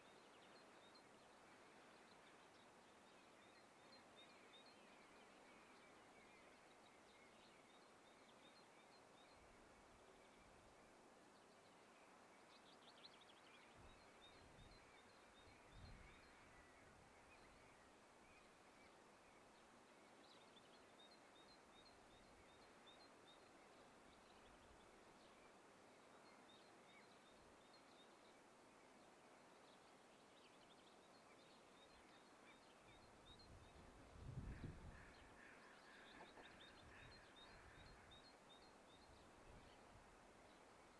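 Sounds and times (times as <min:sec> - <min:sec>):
soft steady hiss: 0:00.0 - 0:40.9.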